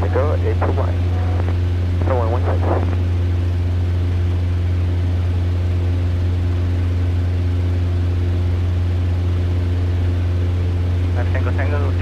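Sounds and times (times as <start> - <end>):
airplane engine droning in flight: 0.0 - 12.0.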